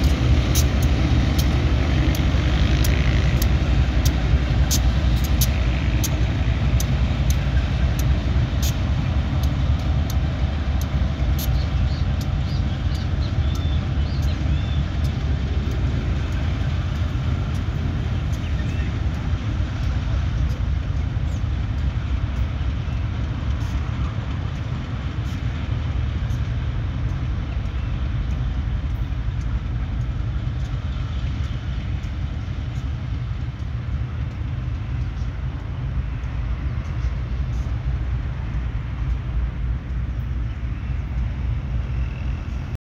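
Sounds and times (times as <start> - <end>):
train rumbling on track: 0.0 - 42.8.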